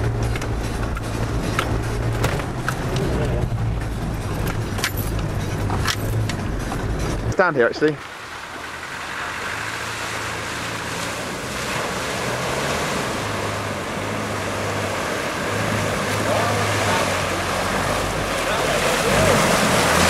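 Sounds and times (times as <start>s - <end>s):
low engine drone: 0.0s - 20.0s
water splashing and rushing: 0.0s - 20.0s.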